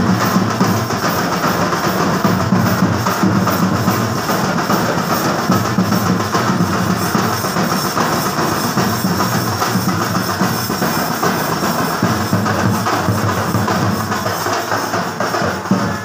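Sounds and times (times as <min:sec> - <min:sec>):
large drums beating: 0:00.0 - 0:16.0.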